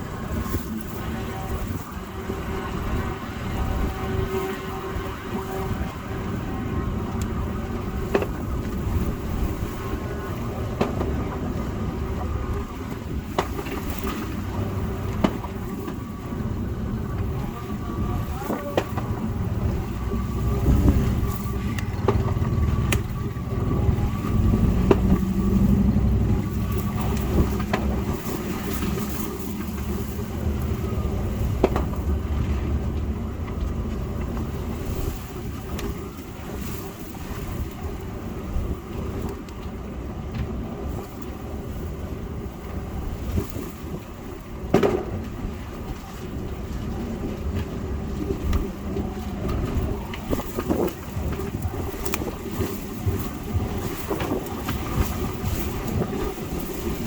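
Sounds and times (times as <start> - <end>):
trucks rumbling: 0.0 - 57.0
wind buffeting microphone: 0.0 - 57.0.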